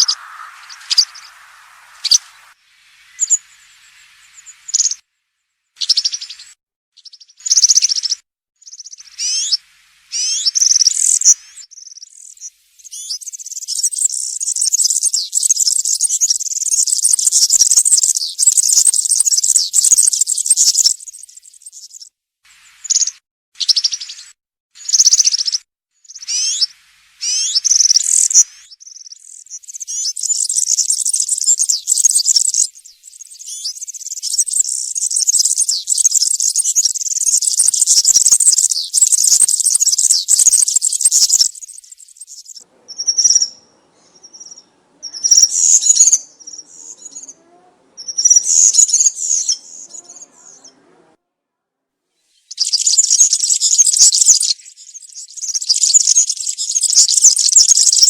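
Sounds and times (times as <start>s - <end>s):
bird singing high jingling phrases: 0.0s - 5.0s, 5.8s - 22.1s, 24.8s - 47.4s, 48.0s - 50.6s, 52.4s - 58.0s.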